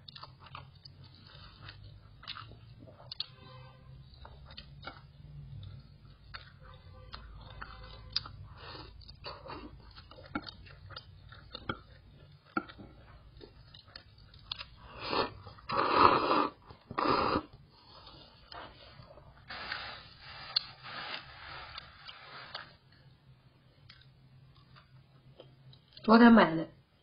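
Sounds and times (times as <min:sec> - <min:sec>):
person chewing noodles: 0:00.0 - 0:23.1, 0:23.8 - 0:26.0.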